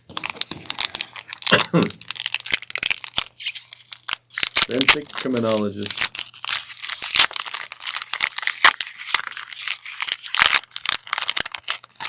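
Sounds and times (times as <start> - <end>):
cards crinkling and rustling: 0.0 - 12.0.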